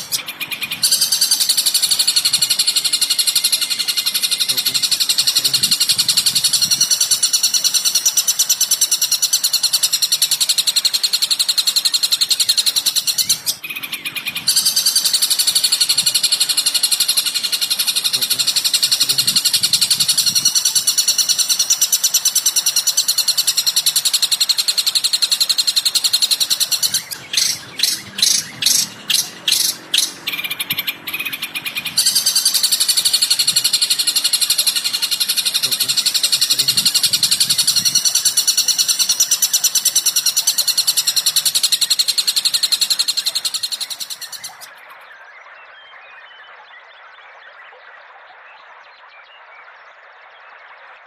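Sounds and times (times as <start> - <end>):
sharp bird calls: 0.0 - 46.5
songbird chatter: 0.0 - 46.8.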